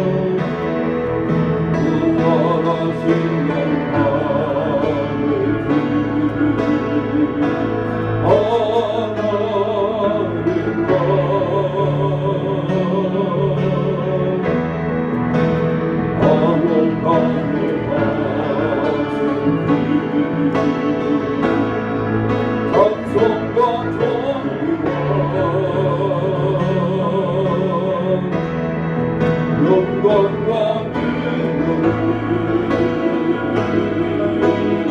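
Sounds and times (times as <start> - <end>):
congregation singing a hymn: 0.0 - 34.9
sustained instrumental accompaniment: 0.0 - 34.9.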